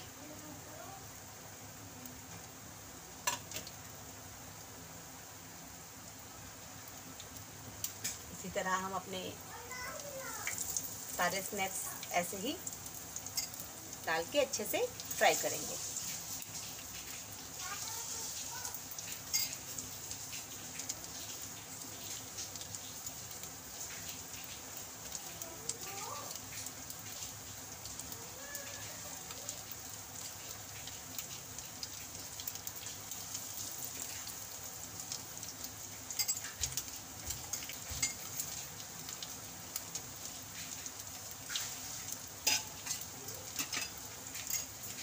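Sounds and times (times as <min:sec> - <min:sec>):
food sizzling in hot oil: 0:00.0 - 0:45.0.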